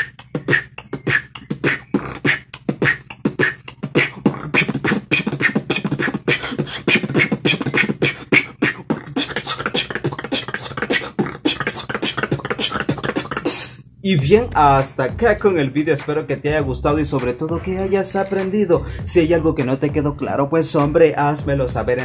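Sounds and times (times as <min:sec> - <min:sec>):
beatboxed drum and bass beat: 0:00.0 - 0:22.0.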